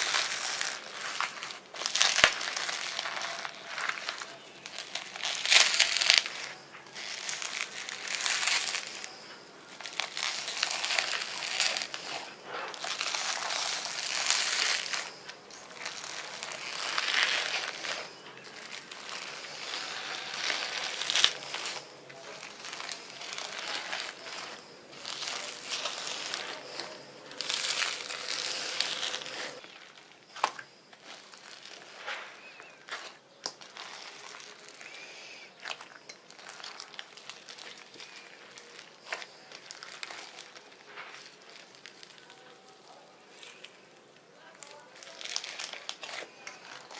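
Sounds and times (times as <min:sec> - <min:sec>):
slime being squished by hand: 0:00.0 - 0:46.9.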